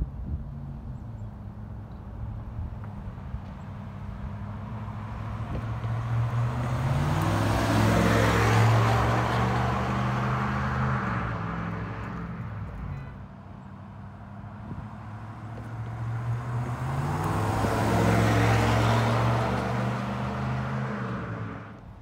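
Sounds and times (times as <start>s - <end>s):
truck exhaust driving past: 3.1s - 21.8s.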